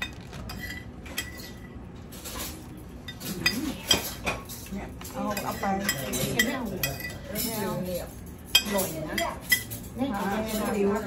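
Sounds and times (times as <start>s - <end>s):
spoons clinking on plates: 0.0s - 11.0s.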